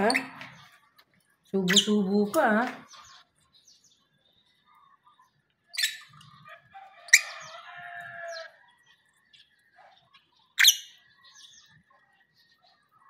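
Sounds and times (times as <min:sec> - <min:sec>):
lovebird chirping: 0:00.0 - 0:13.0.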